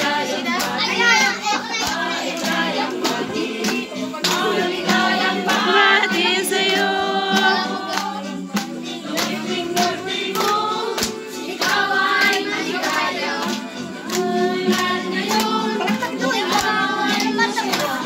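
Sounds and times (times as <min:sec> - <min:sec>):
group of voices singing: 0:00.0 - 0:18.0
sharp beat of claps or drum: 0:00.0 - 0:18.0.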